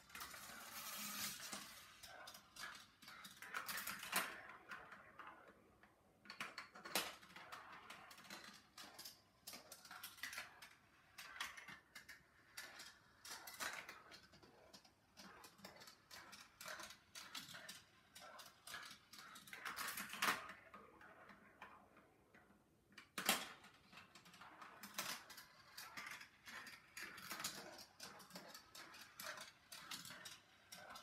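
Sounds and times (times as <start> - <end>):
marbles clicking and clattering: 0.0 - 5.5, 6.3 - 21.8, 23.0 - 31.0
marbles rolling on plastic rails: 0.0 - 31.0.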